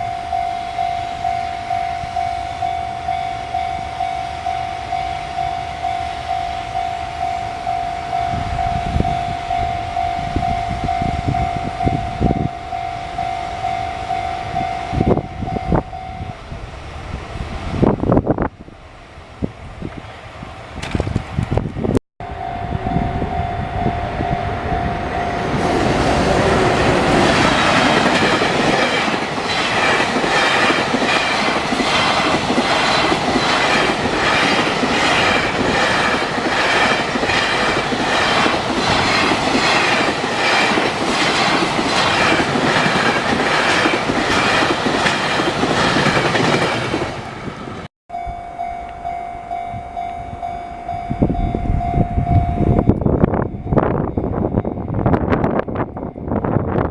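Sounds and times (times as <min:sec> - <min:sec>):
level-crossing warning bell: 0:00.0 - 0:16.5, 0:22.2 - 0:47.0, 0:48.1 - 0:56.9.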